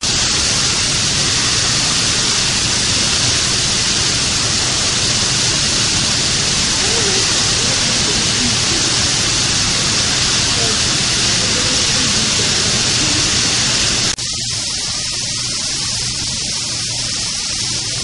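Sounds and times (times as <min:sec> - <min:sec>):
loud rushing hiss: 0:00.0 - 0:18.0.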